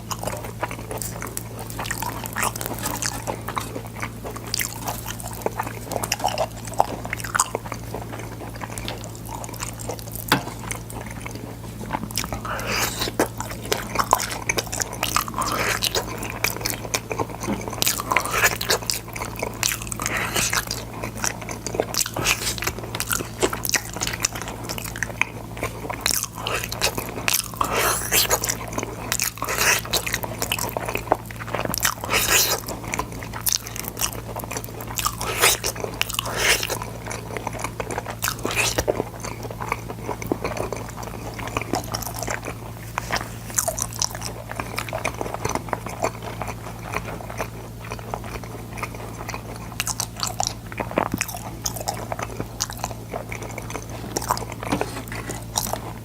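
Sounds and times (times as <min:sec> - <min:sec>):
crisp crunching bites: 0:00.0 - 0:56.0
steady low hum: 0:00.0 - 0:56.0
wet chewing: 0:00.0 - 0:56.0.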